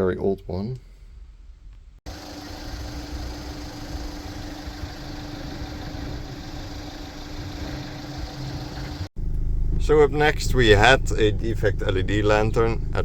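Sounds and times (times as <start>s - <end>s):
vehicle engine idling: 2.1s - 13.0s.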